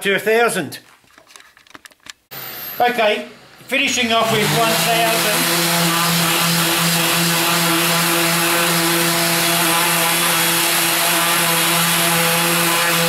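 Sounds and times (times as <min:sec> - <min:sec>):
orbital sander sanding plastic: 0:02.4 - 0:13.0.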